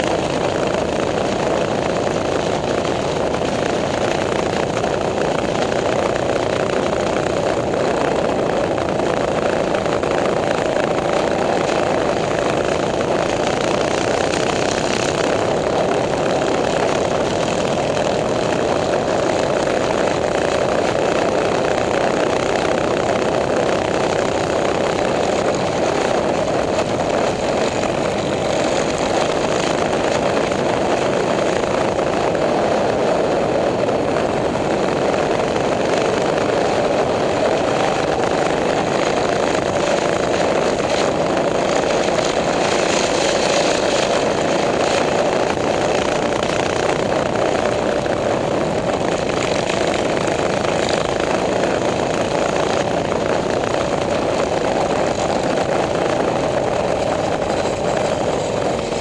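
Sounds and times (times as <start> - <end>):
minibike engines running: 0.0 - 59.0.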